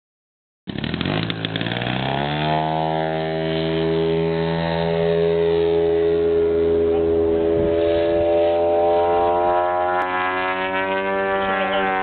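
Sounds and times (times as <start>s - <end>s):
model plane engine at high throttle: 0.7s - 12.0s.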